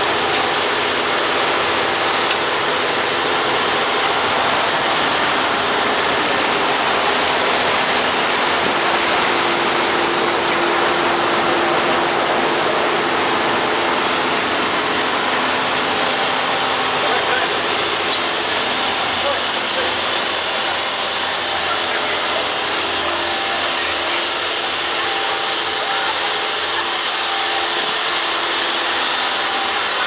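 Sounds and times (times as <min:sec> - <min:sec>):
boat engine hum: 0:00.0 - 0:30.0
boat wake churning: 0:00.0 - 0:30.0.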